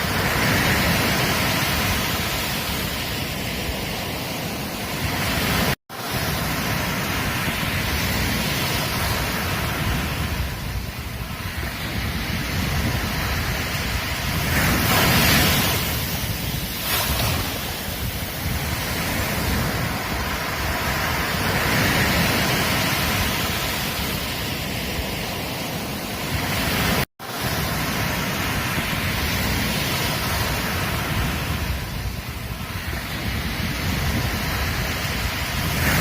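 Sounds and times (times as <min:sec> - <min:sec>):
surf breaking on beach: 0:00.0 - 0:36.0.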